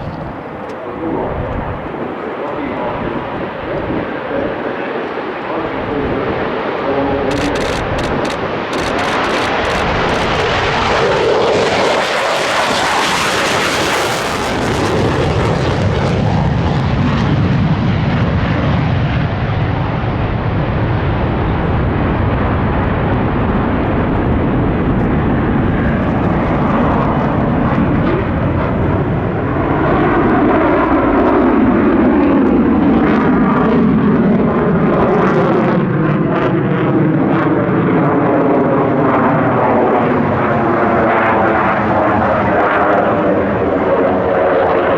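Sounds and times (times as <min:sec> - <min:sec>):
jet engine roar: 0:00.0 - 0:44.9.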